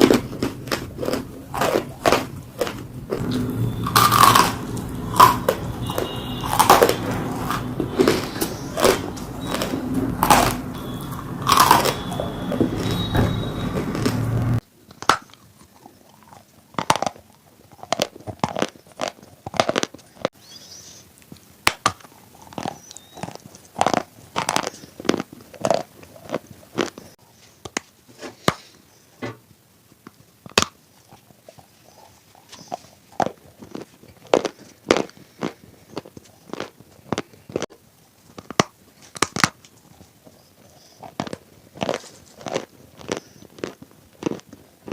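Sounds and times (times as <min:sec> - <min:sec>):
chewing hard clay crunches: 0:00.0 - 0:20.4, 0:21.2 - 0:28.8, 0:30.0 - 0:44.9.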